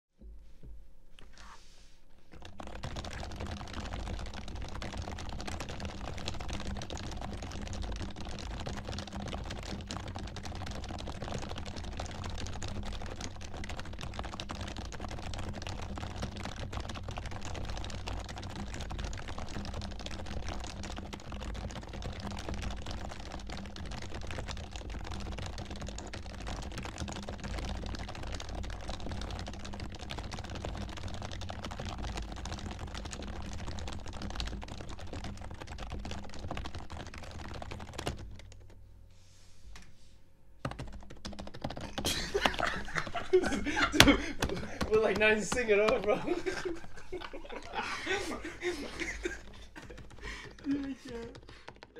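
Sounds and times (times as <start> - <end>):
fast keyboard typing: 2.3 - 38.8, 40.6 - 51.9.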